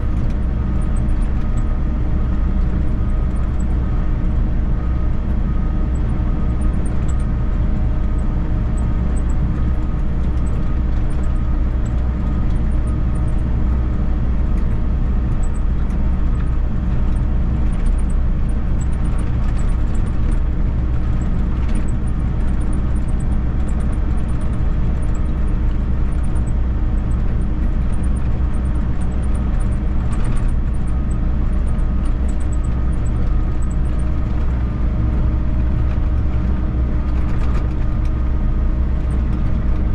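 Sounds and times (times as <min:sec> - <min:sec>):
excavator diesel engine drone: 0:00.0 - 0:39.9.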